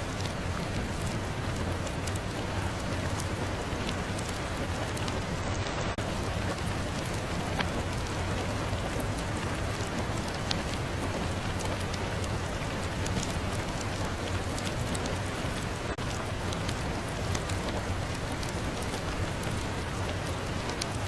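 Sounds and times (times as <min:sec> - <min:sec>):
raindrops ticking: 0:00.0 - 0:21.0
steady rain: 0:00.0 - 0:21.0.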